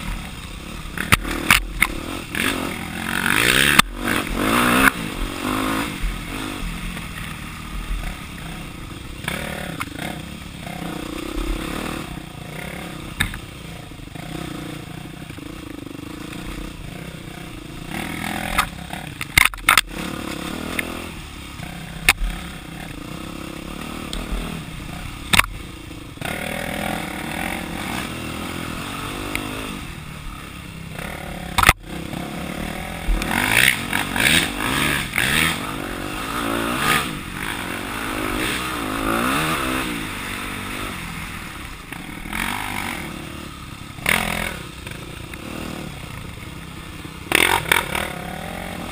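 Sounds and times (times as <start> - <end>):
clatter and scraping of bike and brush: 0.0 - 48.9
dirt bike engine revving: 0.0 - 48.9.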